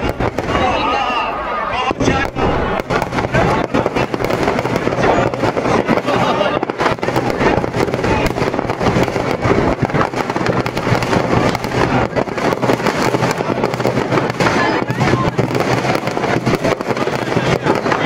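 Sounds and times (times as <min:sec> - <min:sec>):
firecrackers crackling and banging: 0:00.0 - 0:18.0.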